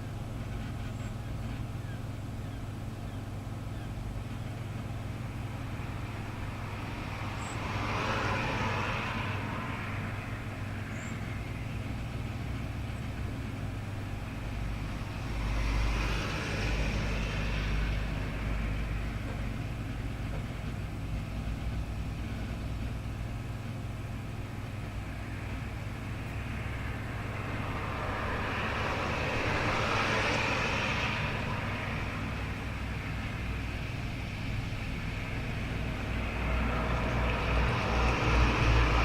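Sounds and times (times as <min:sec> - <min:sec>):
road traffic hum: 0:00.0 - 0:39.0
vehicles passing: 0:03.3 - 0:39.0.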